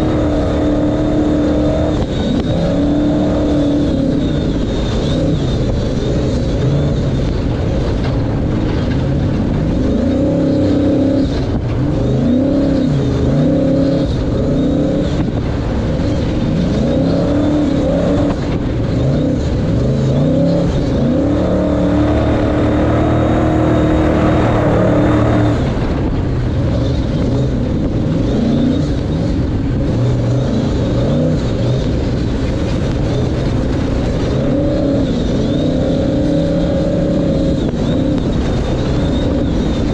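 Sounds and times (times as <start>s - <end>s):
truck engine revving hard: 0.0s - 39.9s.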